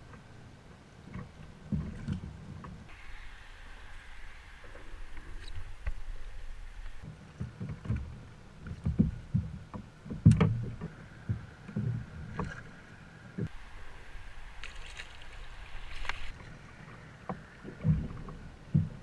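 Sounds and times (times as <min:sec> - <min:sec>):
light wind: 0:00.0 - 0:19.0
water noise: 0:00.0 - 0:19.0.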